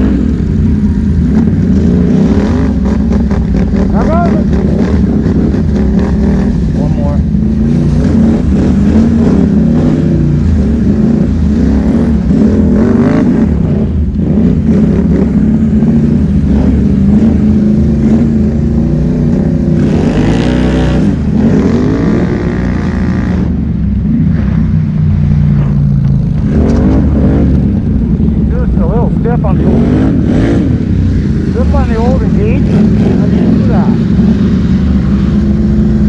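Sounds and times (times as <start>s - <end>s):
atv engine revving: 0.0s - 36.0s.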